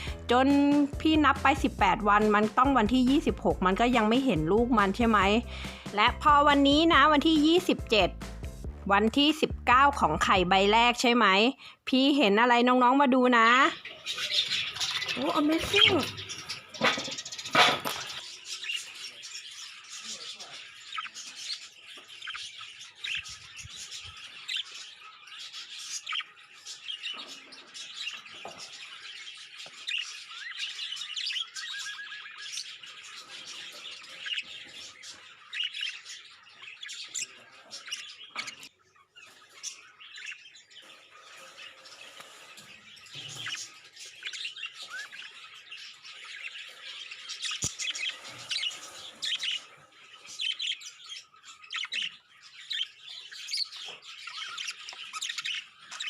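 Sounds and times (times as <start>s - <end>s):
budgerigars chirping: 0.0s - 11.8s, 13.3s - 56.0s.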